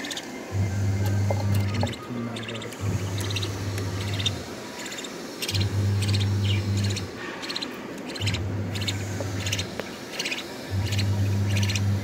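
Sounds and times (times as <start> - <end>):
low steady hum: 0.0 - 12.0
budgerigars chirping: 1.1 - 12.0.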